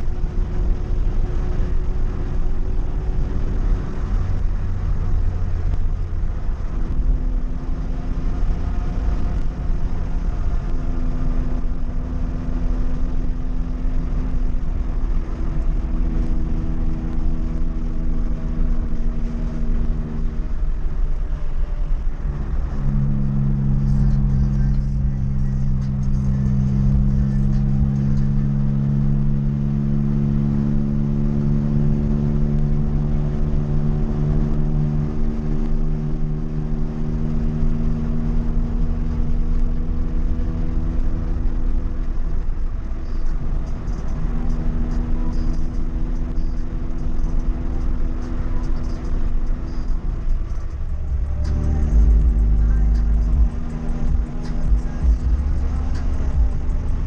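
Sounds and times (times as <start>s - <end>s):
car engine running under load: 0.0s - 57.0s
road rumble: 0.0s - 57.0s.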